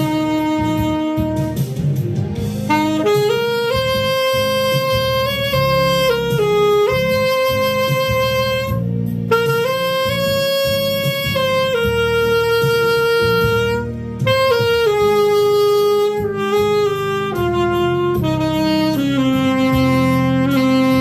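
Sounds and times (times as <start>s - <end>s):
backing accompaniment with bass: 0.0s - 21.0s
saxophone slow melody: 0.0s - 21.0s.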